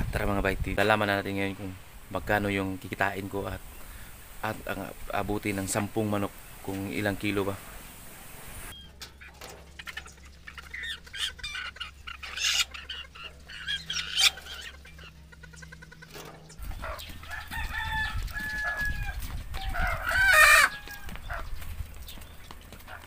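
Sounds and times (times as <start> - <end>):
chickens clucking and squawking: 0.0 - 23.0.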